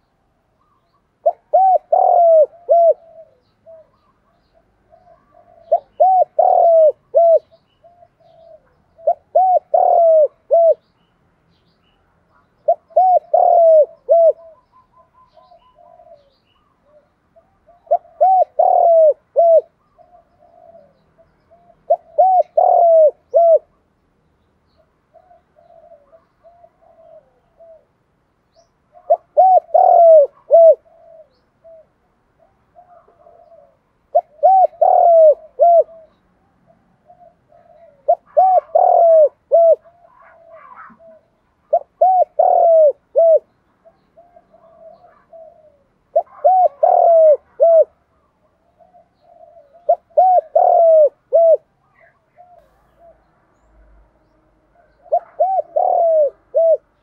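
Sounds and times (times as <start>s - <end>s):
dove cooing: 0.0s - 11.0s, 12.3s - 23.9s, 24.7s - 53.3s, 54.8s - 57.0s.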